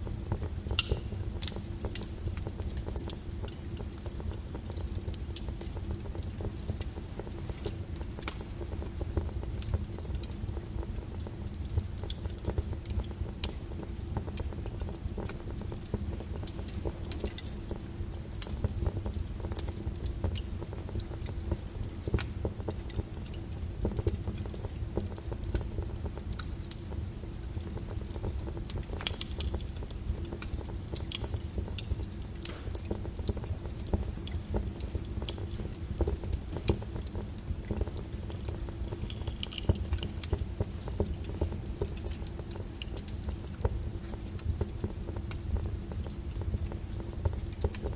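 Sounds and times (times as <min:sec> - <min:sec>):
low rumble of burning: 0:00.0 - 0:47.9
wood fire crackling and popping: 0:00.0 - 0:47.9.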